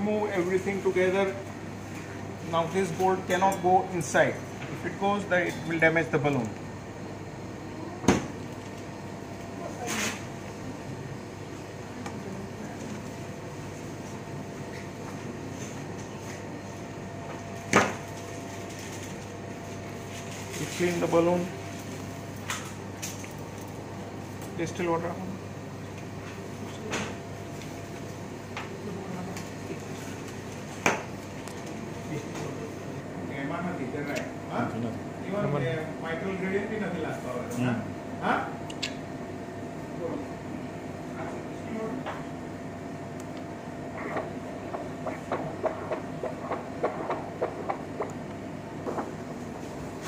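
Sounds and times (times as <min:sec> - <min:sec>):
steady background hum: 0:00.0 - 0:50.0.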